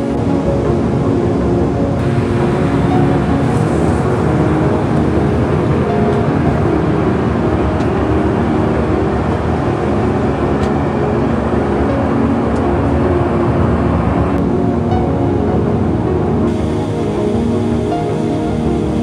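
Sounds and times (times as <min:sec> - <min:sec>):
airliner cabin rumbling hum: 0:00.0 - 0:19.0.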